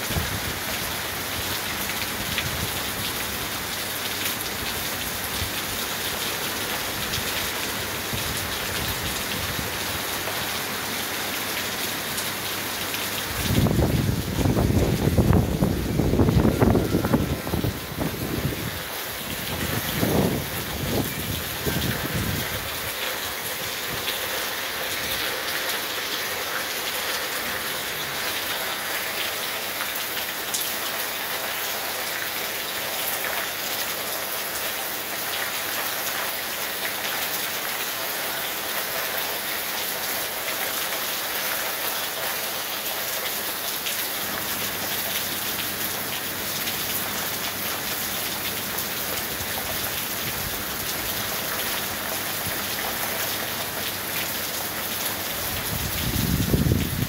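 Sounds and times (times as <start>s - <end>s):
heavy rain on street: 0.0s - 57.0s.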